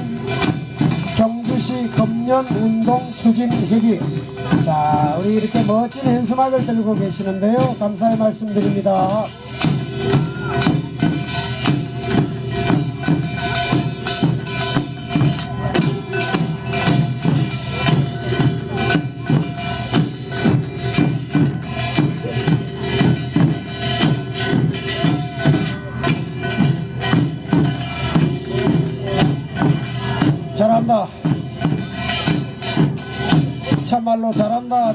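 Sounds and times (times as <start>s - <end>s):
metal gongs ringing: 0.0s - 34.0s
drums beating: 0.0s - 34.9s.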